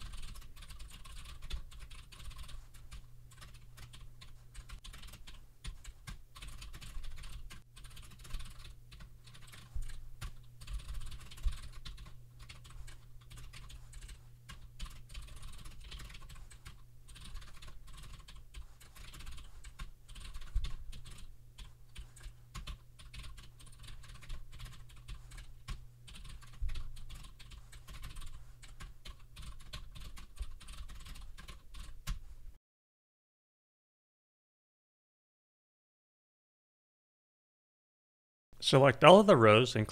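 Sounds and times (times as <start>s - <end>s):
typing on keyboard: 0.0s - 32.2s
low steady hum: 0.0s - 32.6s.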